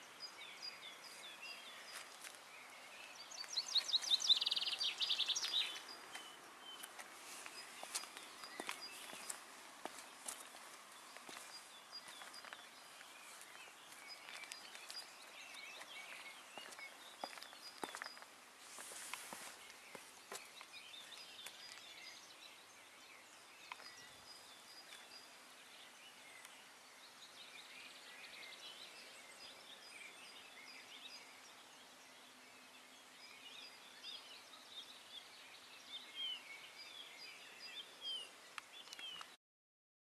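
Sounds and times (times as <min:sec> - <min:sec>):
small birds chirping and twittering: 0:00.0 - 0:39.4.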